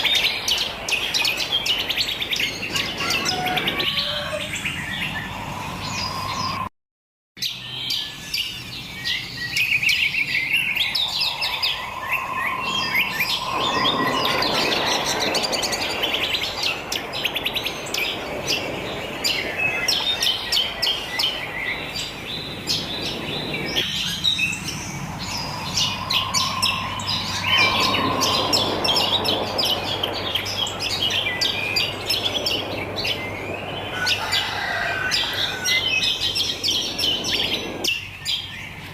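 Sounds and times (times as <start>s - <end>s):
birds chirping and twittering: 0.0s - 6.7s, 7.4s - 38.9s
rushing noise: 0.0s - 6.7s, 10.2s - 37.9s.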